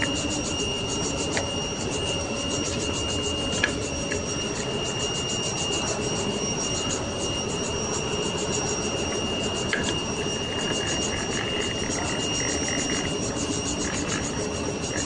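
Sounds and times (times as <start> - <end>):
workshop machinery whining: 0.0 - 15.0.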